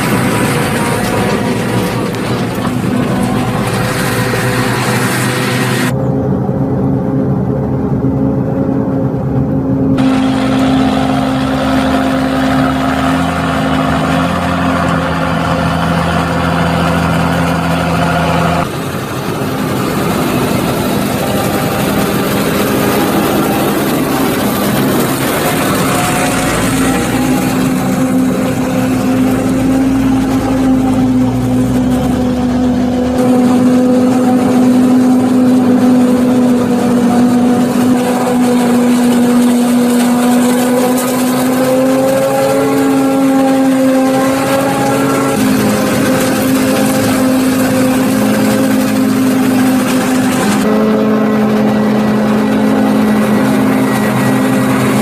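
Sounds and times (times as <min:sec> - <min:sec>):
forage harvester chopping: 0:00.0 - 0:05.9, 0:10.0 - 0:32.4, 0:33.0 - 0:55.0
heavy diesel engines droning: 0:00.0 - 0:55.0.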